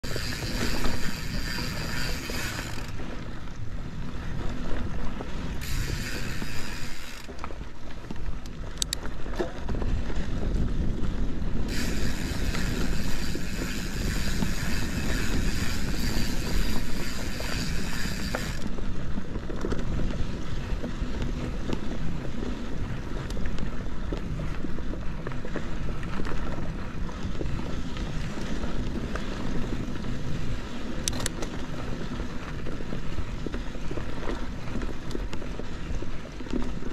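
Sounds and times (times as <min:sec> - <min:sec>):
bike tyres rumbling on dirt: 0:00.0 - 0:36.9
wind noise: 0:00.0 - 0:36.9.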